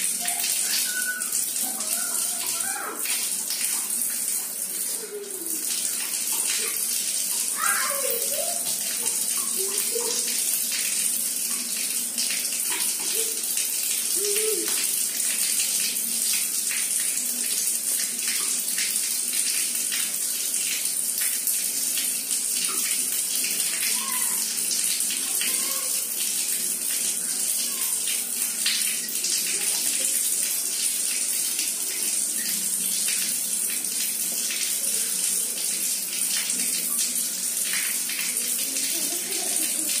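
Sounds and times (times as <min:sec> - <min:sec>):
water splashing onto tiled floor: 0:00.0 - 0:40.0.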